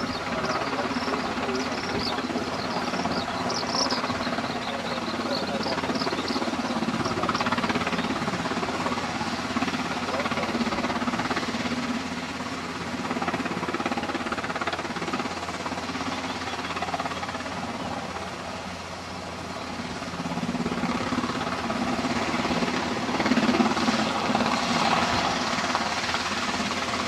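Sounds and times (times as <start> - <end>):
helicopter rotor beating: 0.0 - 27.0
helicopter turbine engines: 0.0 - 27.0.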